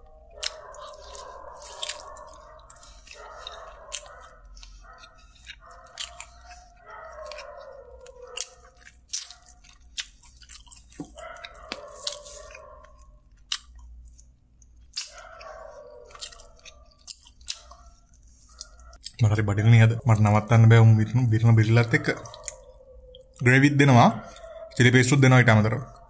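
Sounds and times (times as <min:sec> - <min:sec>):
man chewing: 0:00.0 - 0:26.0.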